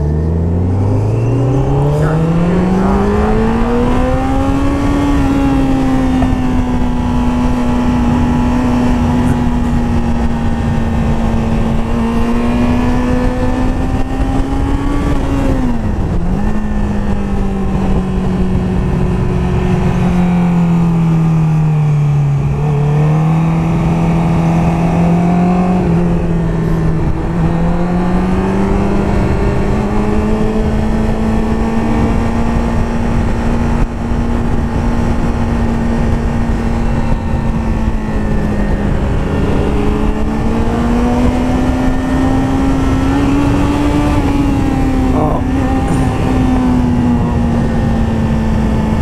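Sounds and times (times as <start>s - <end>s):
motorcycle engine cruising: 0.0s - 49.0s
wind rushing over microphone: 0.0s - 49.0s.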